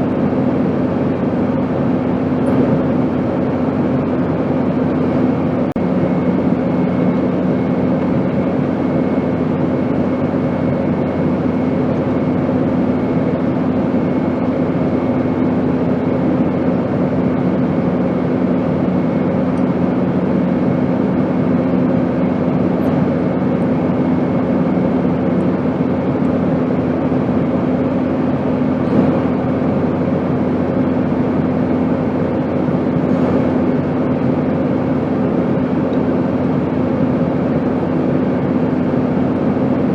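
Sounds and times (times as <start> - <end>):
airplane rushing drone: 0.0 - 39.9
steady low hum: 0.0 - 39.9.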